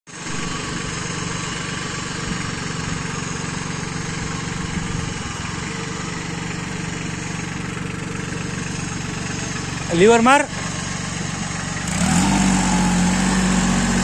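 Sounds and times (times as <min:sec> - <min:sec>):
tractor diesel engine running: 0:00.1 - 0:14.0.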